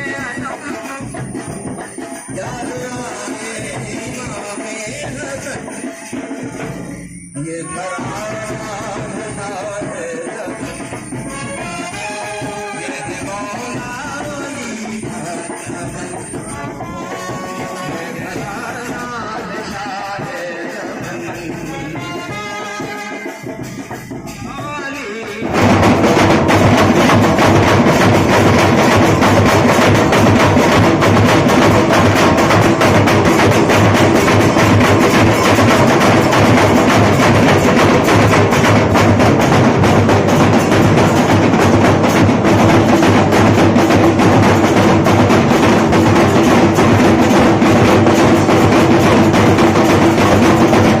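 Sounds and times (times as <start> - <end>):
drums beaten loud and fast: 0.0 - 51.0.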